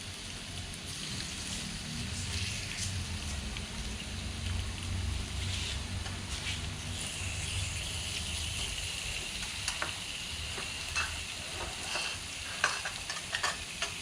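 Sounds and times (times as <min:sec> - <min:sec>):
meat sizzling on grill pan: 0:00.0 - 0:14.0.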